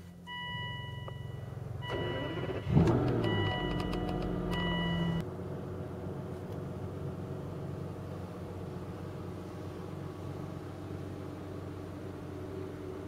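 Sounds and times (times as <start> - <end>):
car engine idling: 0.8 - 13.0.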